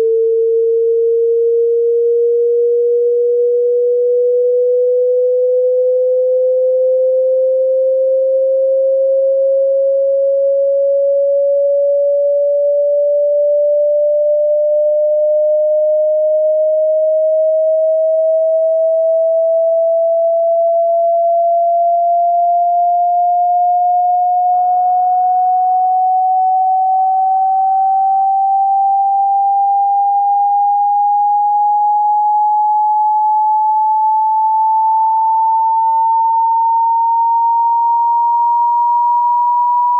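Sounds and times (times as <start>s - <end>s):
rising sine test tone: 0.0s - 39.9s.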